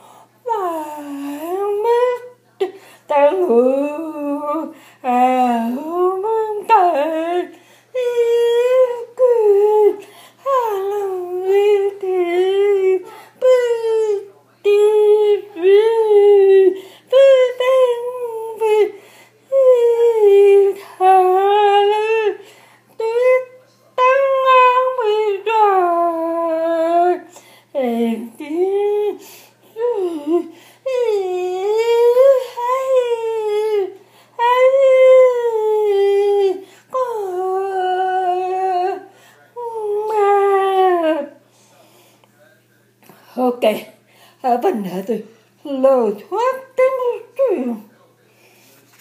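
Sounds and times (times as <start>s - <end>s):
woman singing: 0.0s - 22.4s, 23.0s - 41.3s.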